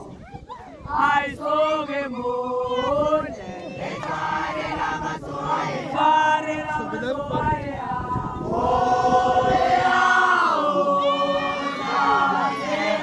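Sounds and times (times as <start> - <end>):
group of voices chanting: 0.9 - 13.0.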